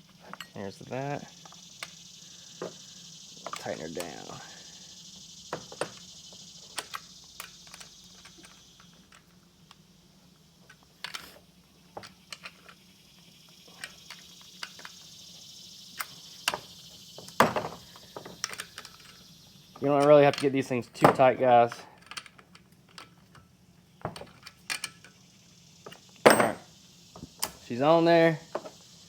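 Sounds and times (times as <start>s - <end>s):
faint hum: 0.0s - 29.0s
steady high hiss: 0.0s - 29.0s.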